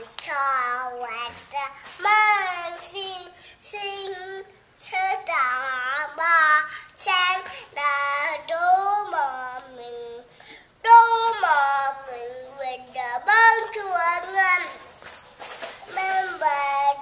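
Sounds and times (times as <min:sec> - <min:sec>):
young child singing: 0:00.0 - 0:14.9, 0:15.8 - 0:17.0.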